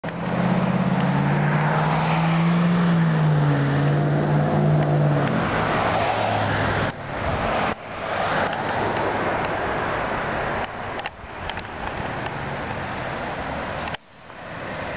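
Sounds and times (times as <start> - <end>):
car engine hum: 0.0 - 14.9
road noise: 0.0 - 14.9.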